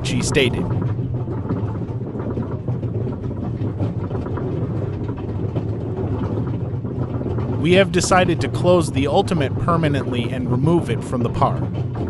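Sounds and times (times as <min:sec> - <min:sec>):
continuous rattling: 0:00.0 - 0:12.0
low mechanical rumble: 0:00.0 - 0:12.0.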